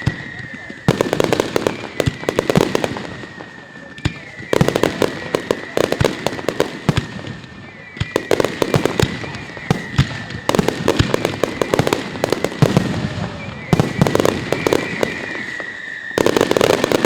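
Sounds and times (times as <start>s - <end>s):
fireworks bangs and crackles: 0.0s - 17.0s
high whistling tone: 0.0s - 17.0s.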